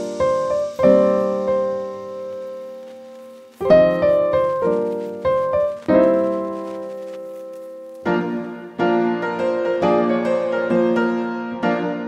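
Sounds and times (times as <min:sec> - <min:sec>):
solo piano music: 0:00.0 - 0:12.0.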